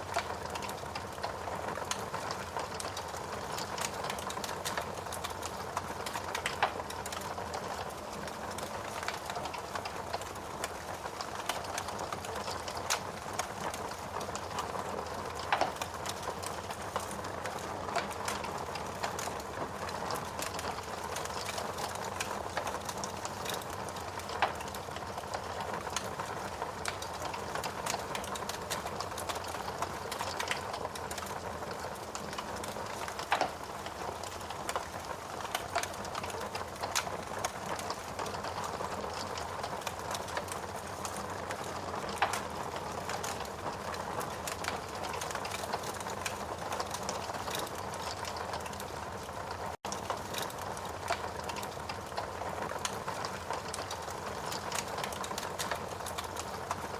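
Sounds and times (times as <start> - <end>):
steady rain: 0.0 - 56.9
wood fire crackling and popping: 0.0 - 56.9.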